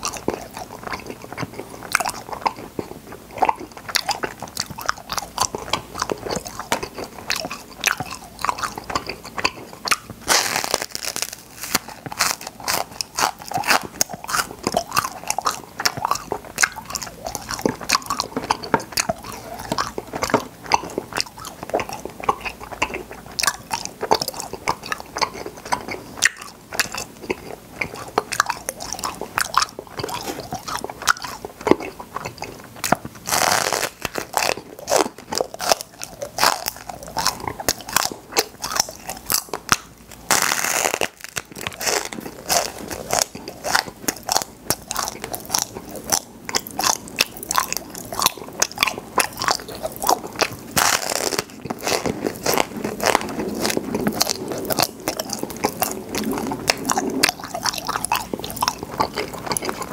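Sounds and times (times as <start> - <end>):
crunching and chewing: 0.0 - 59.9
popping candy crackling: 0.0 - 59.9.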